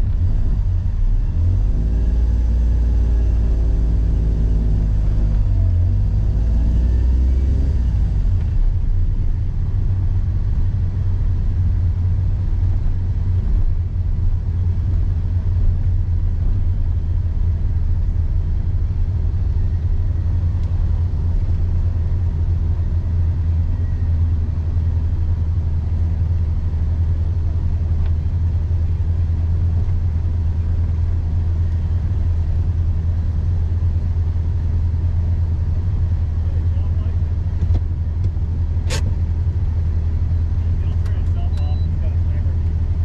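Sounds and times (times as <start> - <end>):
car engine droning: 0.0 - 43.0.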